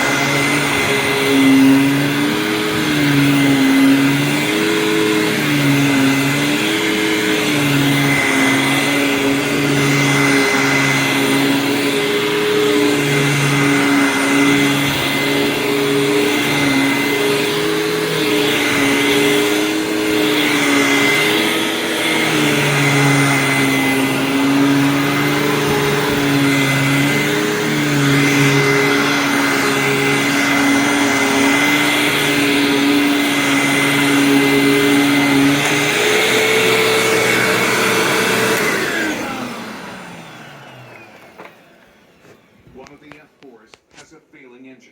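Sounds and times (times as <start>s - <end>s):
vacuum cleaner running: 0.0s - 44.1s.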